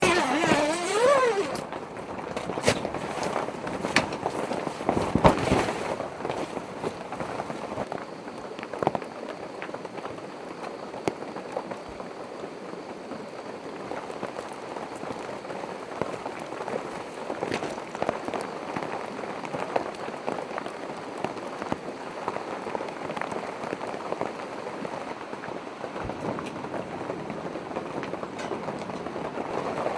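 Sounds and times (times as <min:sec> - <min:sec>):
raindrops striking tent fabric: 0:00.0 - 0:29.9
steady hiss of rain: 0:00.0 - 0:29.9.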